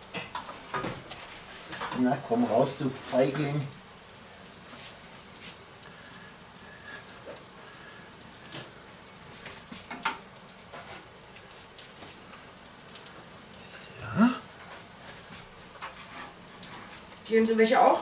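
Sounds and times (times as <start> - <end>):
fat sizzling in a pan: 0.0 - 18.0.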